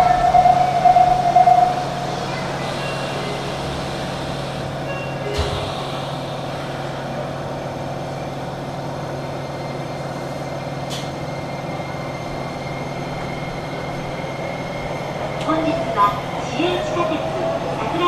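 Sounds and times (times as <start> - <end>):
subway car hum: 0.0 - 18.0.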